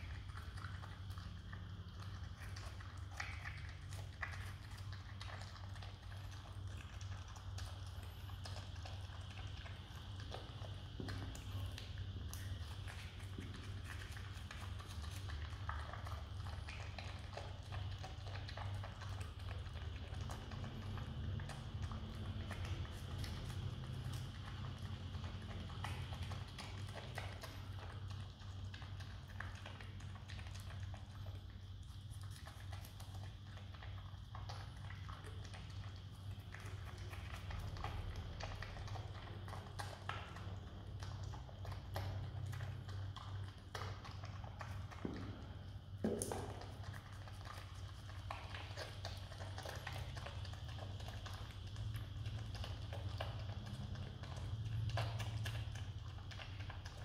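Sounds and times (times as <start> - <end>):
low steady hum: 0.0 - 57.0
marmot chewing: 0.0 - 57.0.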